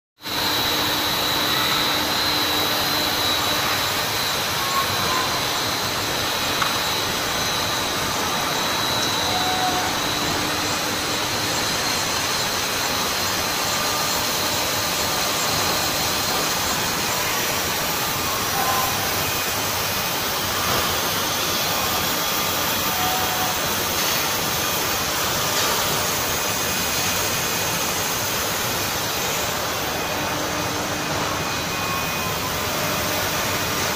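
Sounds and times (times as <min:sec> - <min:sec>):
factory machinery hum: 0:00.2 - 0:33.9
thin high whine: 0:00.2 - 0:33.9.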